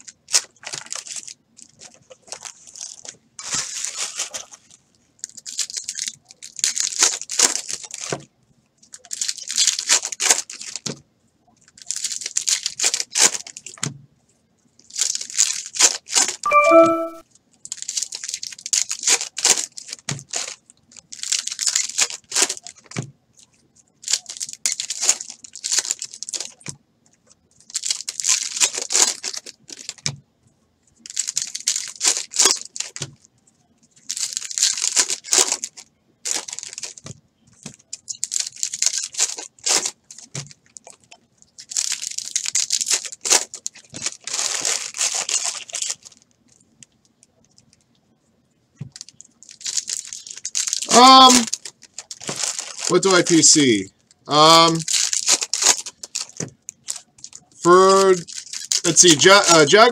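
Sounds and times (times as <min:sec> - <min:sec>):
wrappers tearing and crinkling: 0:00.0 - 0:13.9, 0:14.8 - 0:16.4, 0:17.5 - 0:26.8, 0:27.5 - 0:30.2, 0:30.9 - 0:33.3, 0:33.9 - 0:47.8, 0:48.8 - 0:59.9.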